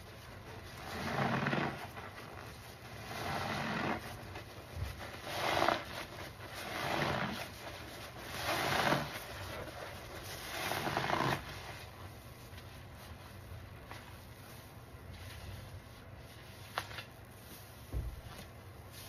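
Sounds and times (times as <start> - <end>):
soapy sponge squelching: 0.0 - 19.0.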